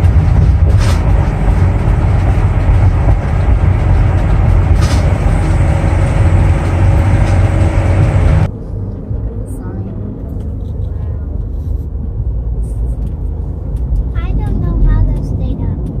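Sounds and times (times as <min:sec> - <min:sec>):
vehicle engine and tyre noise: 0:00.0 - 0:16.0.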